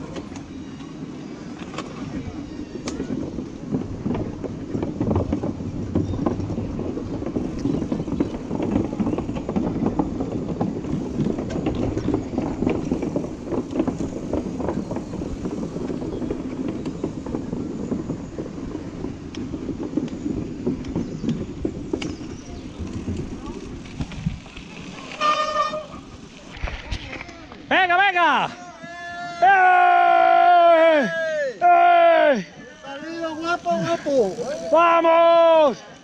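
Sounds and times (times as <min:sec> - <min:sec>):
bike tyres rumbling on wooden planks: 0:00.0 - 0:35.8.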